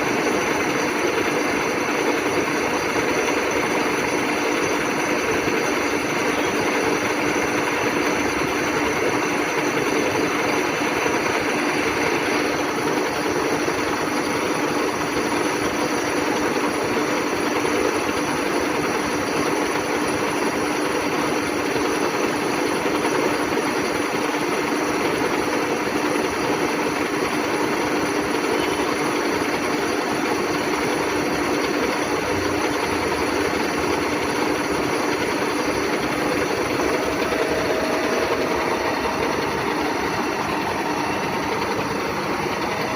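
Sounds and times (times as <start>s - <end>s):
milling machine running: 0.0s - 42.9s.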